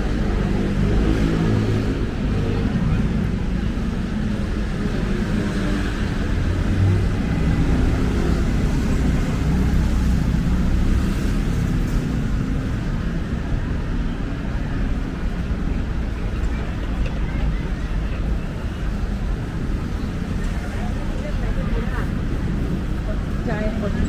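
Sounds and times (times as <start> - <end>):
city street traffic rumble: 0.0 - 24.0.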